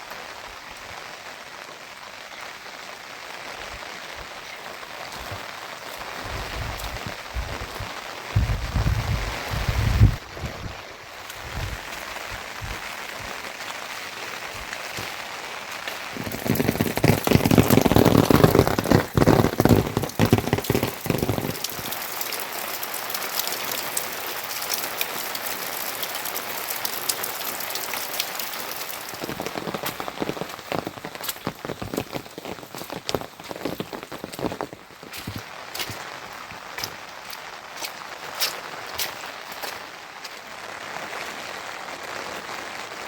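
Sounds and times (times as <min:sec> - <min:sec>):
rain pattering: 0:00.0 - 0:43.0.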